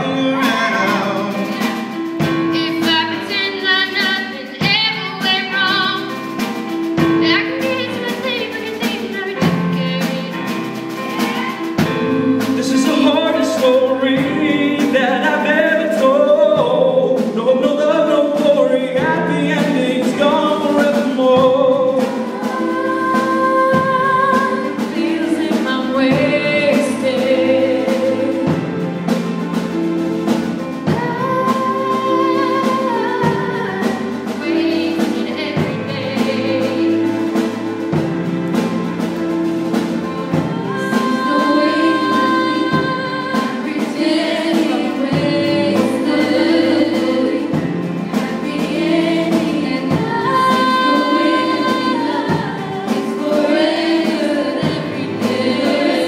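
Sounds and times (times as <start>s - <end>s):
choir singing in harmony: 0.0s - 2.8s, 10.7s - 56.0s
bass line: 0.0s - 56.0s
drums: 0.0s - 56.0s.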